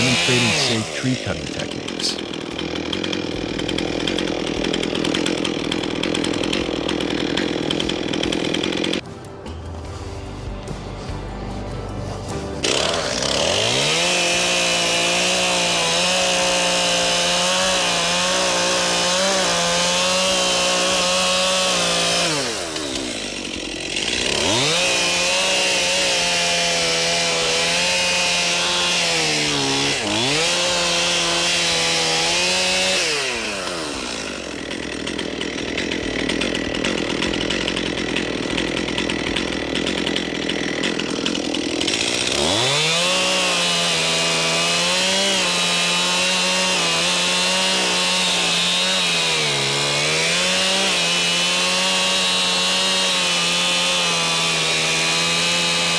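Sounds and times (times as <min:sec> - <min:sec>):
chainsaw cutting wood: 0:00.0 - 0:09.4, 0:11.5 - 0:55.9.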